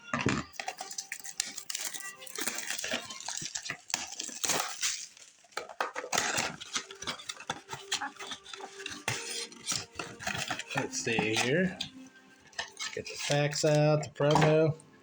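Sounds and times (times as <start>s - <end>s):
packaging rustling and crinkling: 0.0s - 14.8s.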